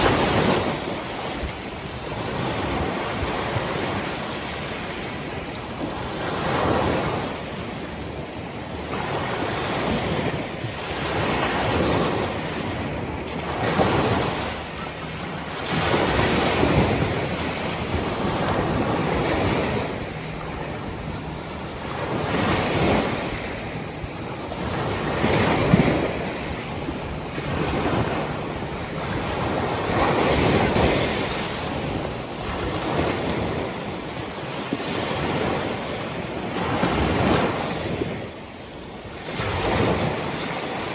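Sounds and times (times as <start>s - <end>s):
small waves breaking on beach: 0.0s - 40.9s
wind on microphone: 0.0s - 40.9s.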